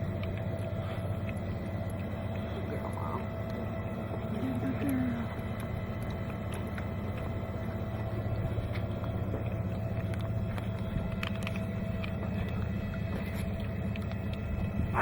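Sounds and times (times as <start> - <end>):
small boat motor droning: 0.0 - 15.0.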